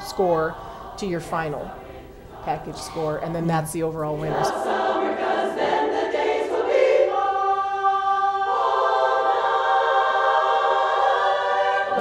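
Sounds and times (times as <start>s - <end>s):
women's chorus singing a cappella: 0.0s - 12.0s.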